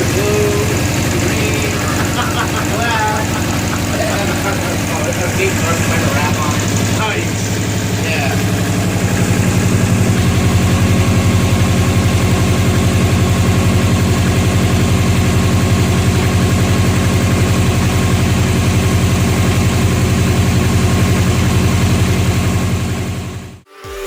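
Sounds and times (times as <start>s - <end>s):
car engine idling: 0.0s - 23.7s.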